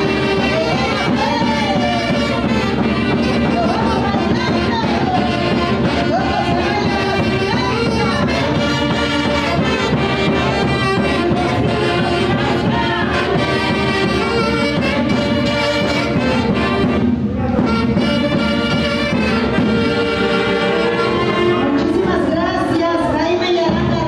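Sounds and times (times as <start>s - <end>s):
brass music: 0.0s - 22.8s.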